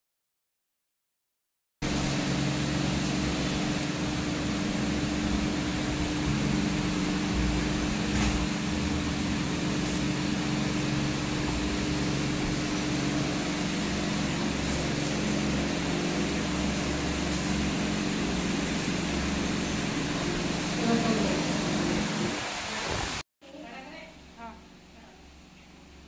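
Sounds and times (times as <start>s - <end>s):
steady mechanical hum: 1.8s - 26.0s.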